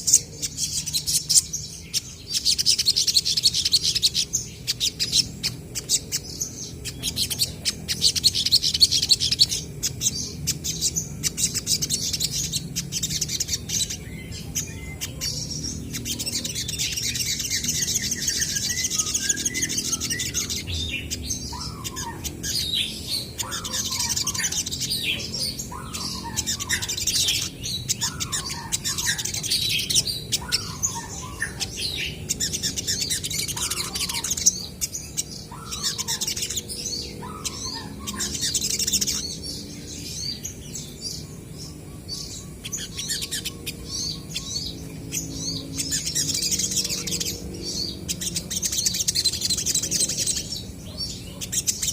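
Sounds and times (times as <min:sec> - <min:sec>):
sunbirds chirping and trilling: 0:00.0 - 0:51.9.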